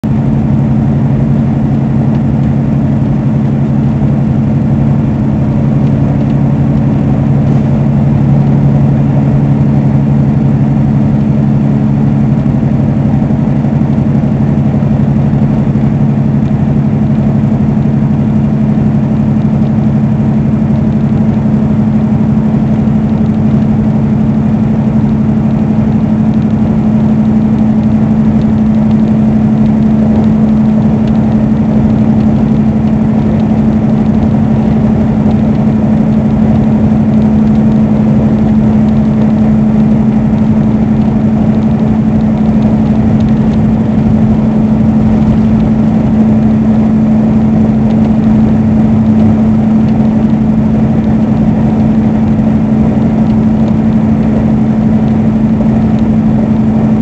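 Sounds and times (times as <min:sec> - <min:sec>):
road noise: 0:00.0 - 0:54.4
diesel truck engine droning: 0:00.0 - 0:57.0.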